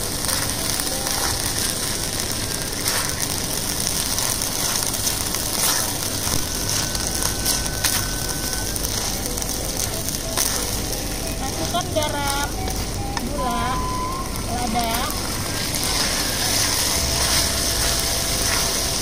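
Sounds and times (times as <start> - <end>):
paste sizzling in oil: 0.0 - 19.0
wooden spatula stirring: 0.0 - 19.0.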